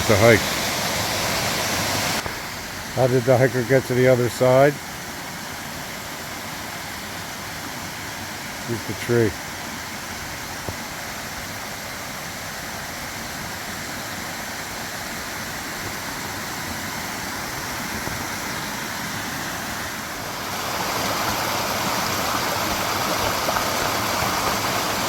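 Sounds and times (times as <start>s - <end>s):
waterfall and stream rushing: 0.0s - 25.0s.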